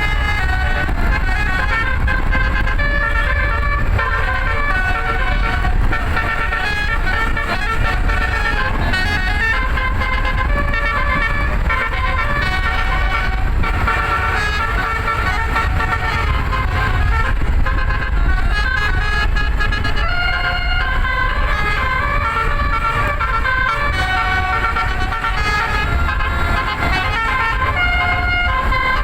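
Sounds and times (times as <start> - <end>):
bus horn melody: 0.0 - 29.0
low vehicle rumble: 0.0 - 29.0.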